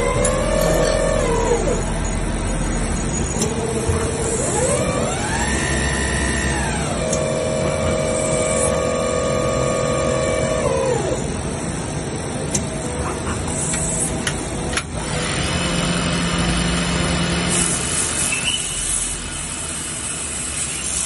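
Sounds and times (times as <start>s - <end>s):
lathe motor whine: 0.0s - 21.0s.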